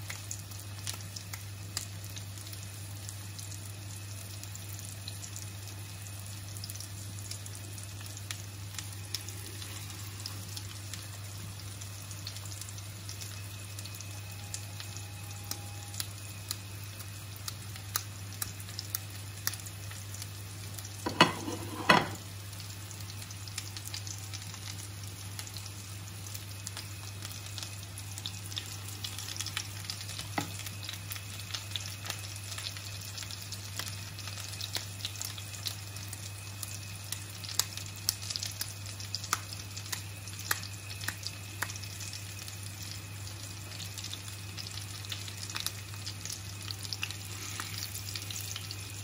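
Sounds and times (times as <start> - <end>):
cutlets sizzling in oil: 0.0 - 49.0.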